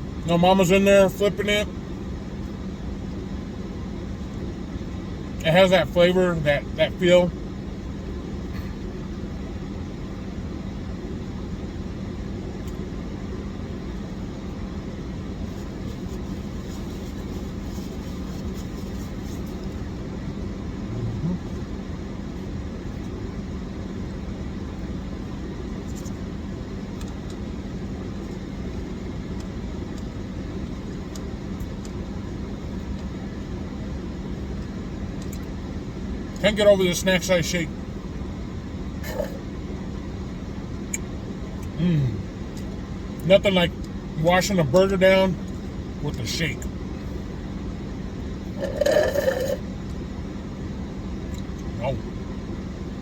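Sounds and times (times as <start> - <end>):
faint steady hum: 0.0 - 53.0
vehicle low rumble: 0.0 - 53.0.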